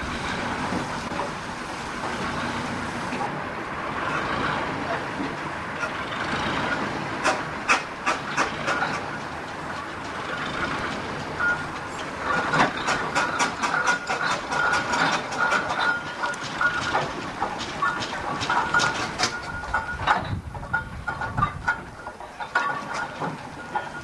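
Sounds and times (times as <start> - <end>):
steam hissing: 0.0 - 19.6
steam engine exhaust beats: 0.0 - 24.0.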